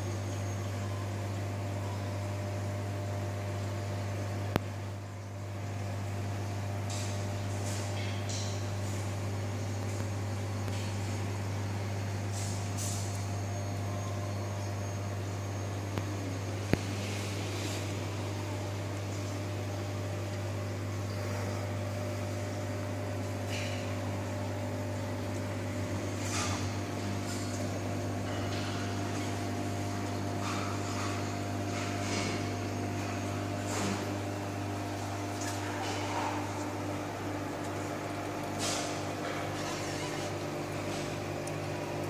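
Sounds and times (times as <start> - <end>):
aquarium air pump hum: 0.0 - 42.0.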